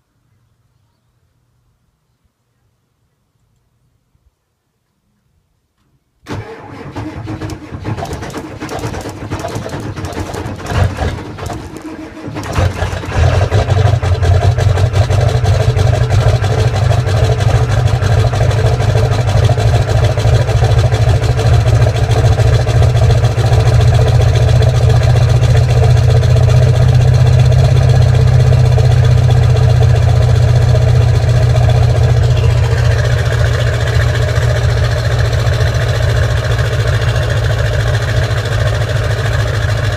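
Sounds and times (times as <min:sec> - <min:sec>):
diesel engine cranking and running: 0:06.3 - 0:39.9
higher engine note: 0:06.3 - 0:39.9.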